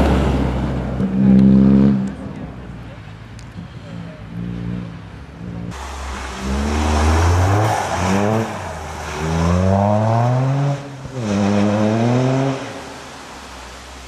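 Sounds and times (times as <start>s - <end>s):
rally car engine at full throttle: 0.0s - 13.5s.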